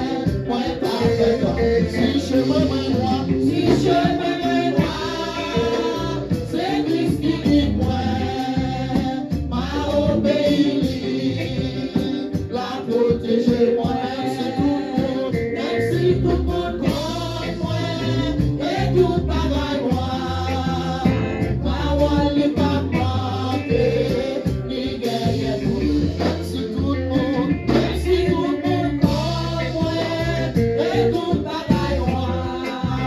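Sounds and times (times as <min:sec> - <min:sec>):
amplified band with bass and drums: 0:00.0 - 0:33.0
men and women singing gospel: 0:00.0 - 0:33.0.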